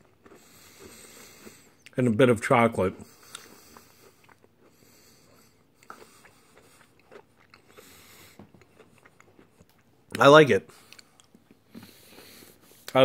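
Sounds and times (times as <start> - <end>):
chewing cookie bar: 0.0 - 13.0.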